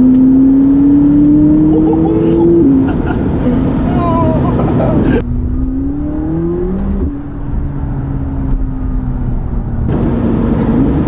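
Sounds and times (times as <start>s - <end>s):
car engine revving: 0.0s - 11.0s
road noise rushing: 0.0s - 11.0s.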